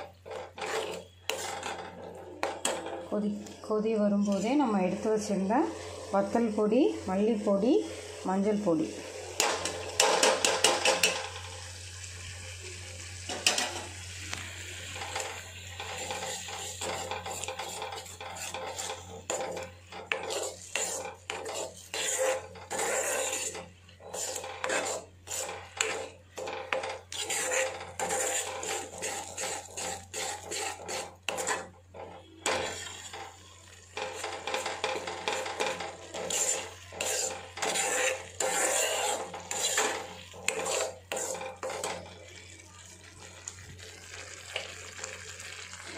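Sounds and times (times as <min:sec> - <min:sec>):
ladle stirring and scraping pot: 0:00.0 - 0:11.5, 0:13.3 - 0:45.9
thick mixture boiling: 0:00.0 - 0:45.9.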